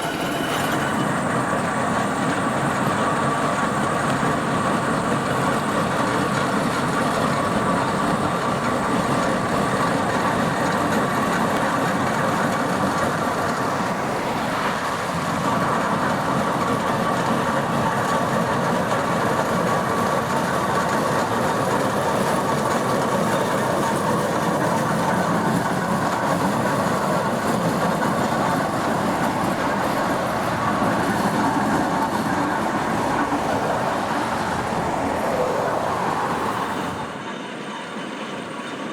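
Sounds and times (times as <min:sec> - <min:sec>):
steam traction engine clattering: 0:00.0 - 0:38.9.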